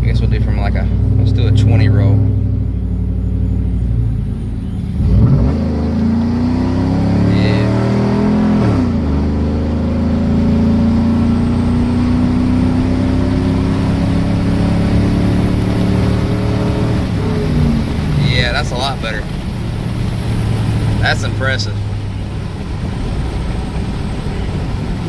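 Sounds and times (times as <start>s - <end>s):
pickup truck engine revving: 0.0s - 25.0s.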